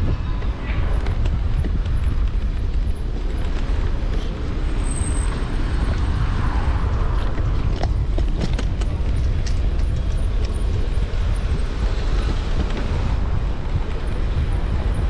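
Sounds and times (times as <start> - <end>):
road rumble: 0.0 - 15.0
wind: 0.0 - 15.0.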